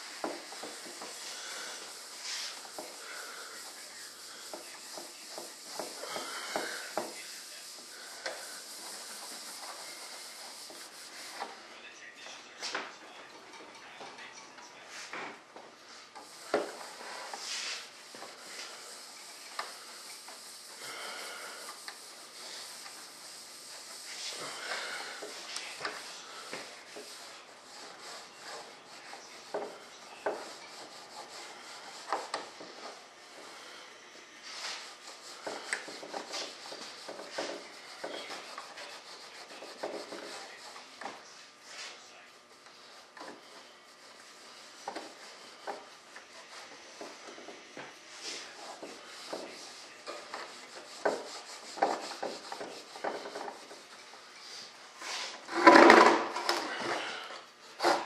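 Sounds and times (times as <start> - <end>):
hand rubbing wax on surface: 0.0 - 11.6, 15.9 - 58.0.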